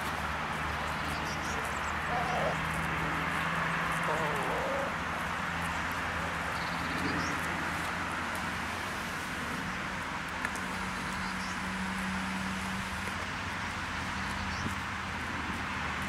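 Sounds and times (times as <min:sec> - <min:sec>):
distant road traffic: 0:00.0 - 0:16.0.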